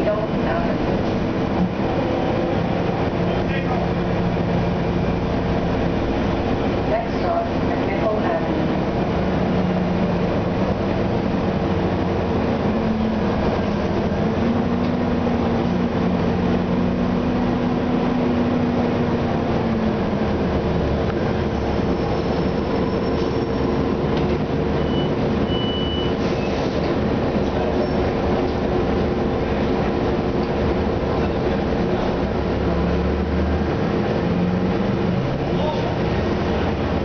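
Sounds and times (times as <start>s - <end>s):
bus engine drone: 0.0s - 37.0s.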